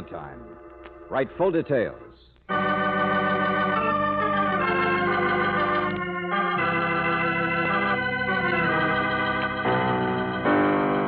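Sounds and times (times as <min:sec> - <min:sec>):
organ playing sustained chords: 0:00.0 - 0:11.0.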